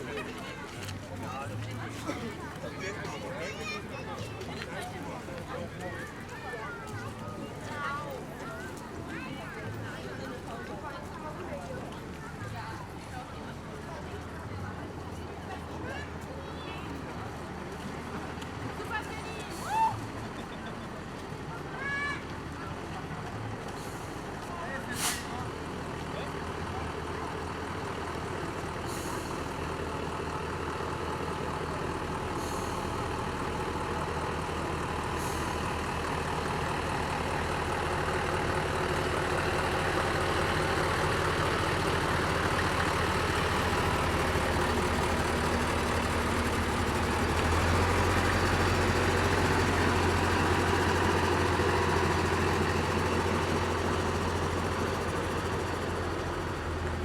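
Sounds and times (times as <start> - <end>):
diesel engine low hum: 0.0 - 57.0.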